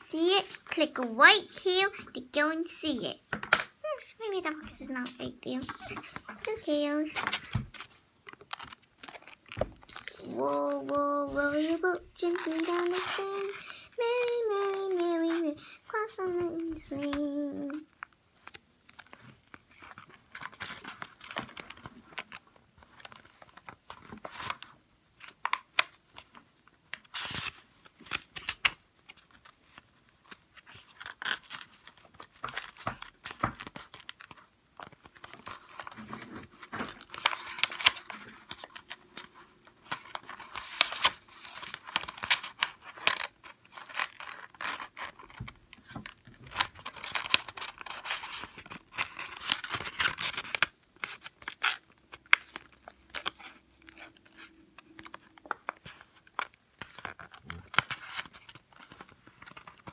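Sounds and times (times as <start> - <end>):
paper rustling and crinkling: 4.0 - 59.9.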